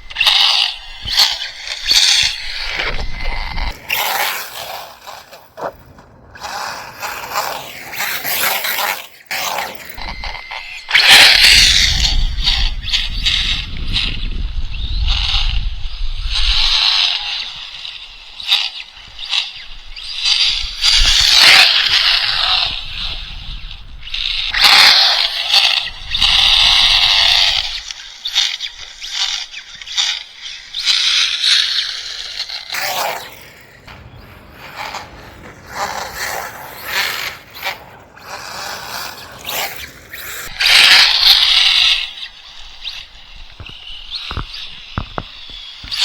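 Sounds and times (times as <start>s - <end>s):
toy truck tyres sliding: 0.0s - 46.0s.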